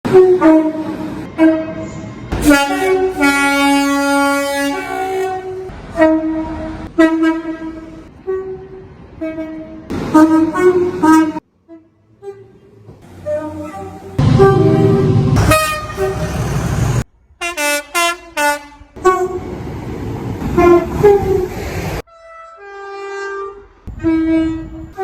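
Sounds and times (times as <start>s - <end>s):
train horn blasts: 0.1s - 16.7s, 17.4s - 19.5s, 20.6s - 21.5s, 22.1s - 25.0s.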